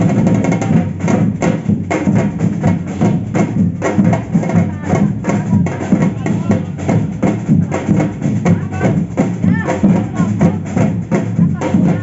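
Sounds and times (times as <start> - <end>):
deep bass drum pulse: 0.0 - 12.0
samba percussion band: 0.0 - 12.0
wood-block strikes: 0.0 - 12.0.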